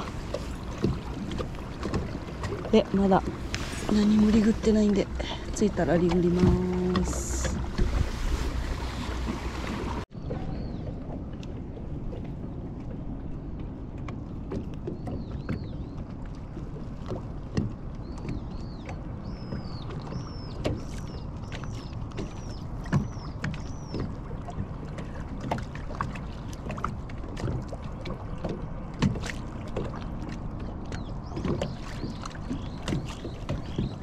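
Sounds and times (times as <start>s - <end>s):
water lapping against boat hull: 0.0s - 34.0s.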